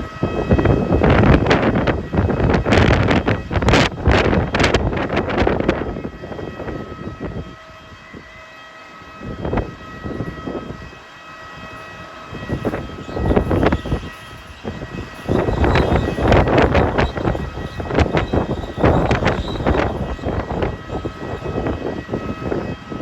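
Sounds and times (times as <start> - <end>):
high machine whine: 0.0 - 23.0
wind buffeting microphone: 0.0 - 23.0.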